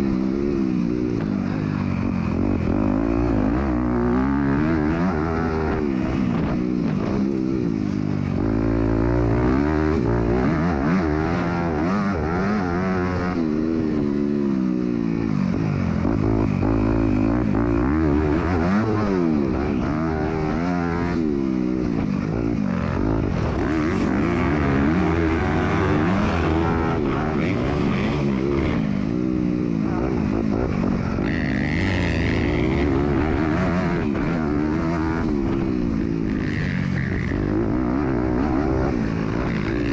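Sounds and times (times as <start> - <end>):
motocross bike engine racing: 0.0 - 39.9.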